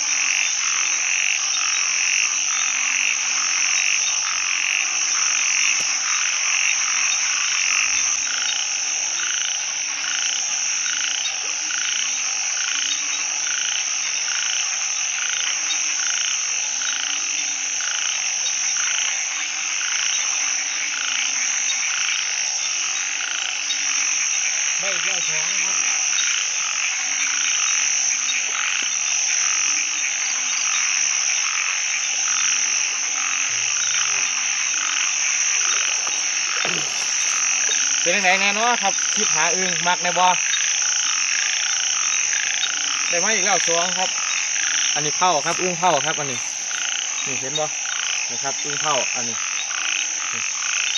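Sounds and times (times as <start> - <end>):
frogs low calls: 0.0 - 50.9
higher pulsed frog calls: 0.0 - 50.9.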